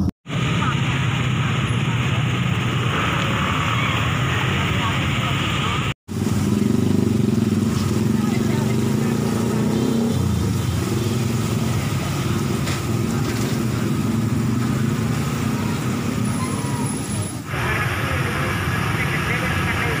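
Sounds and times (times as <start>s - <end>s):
vehicle engines rumbling: 0.0s - 20.0s.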